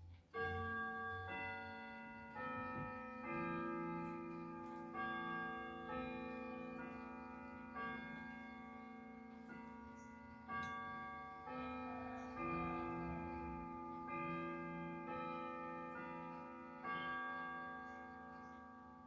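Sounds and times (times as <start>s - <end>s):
clock chime rods ringing: 0.4s - 19.0s.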